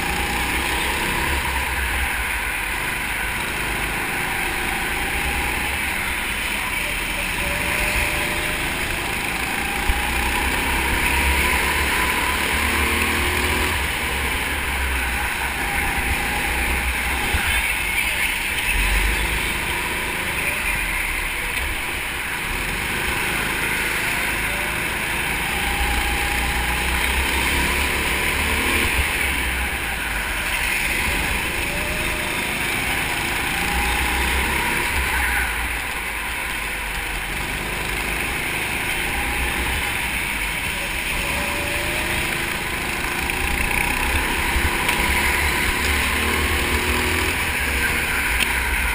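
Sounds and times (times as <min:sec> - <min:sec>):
go-kart engine running: 0:00.0 - 0:48.9
steady rushing noise: 0:00.0 - 0:48.9.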